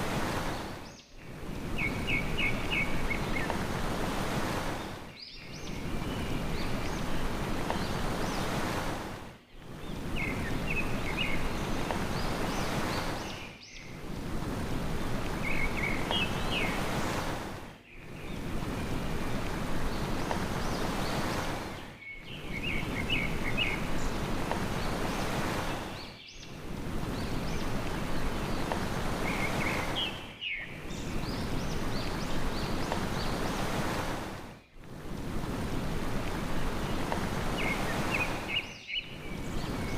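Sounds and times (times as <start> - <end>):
ocean surf: 0.0 - 39.9
small birds chirping: 0.4 - 8.8, 9.4 - 14.2, 15.0 - 34.9, 36.1 - 39.9.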